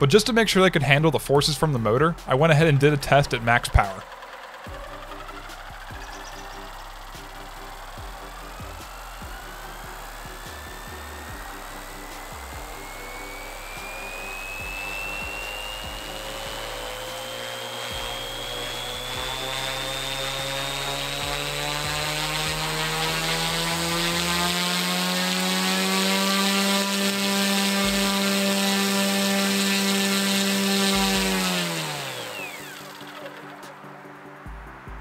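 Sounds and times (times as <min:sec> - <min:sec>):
electric motor driving propeller: 0:01.6 - 0:34.2.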